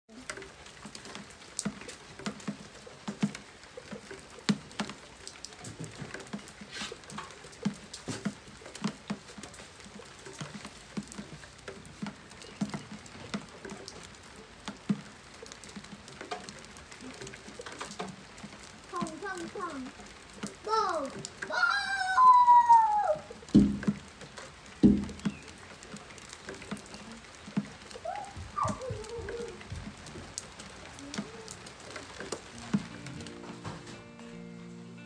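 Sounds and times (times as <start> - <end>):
raindrops tapping on a surface: 0.1 - 34.4
rain pattering: 0.1 - 35.0.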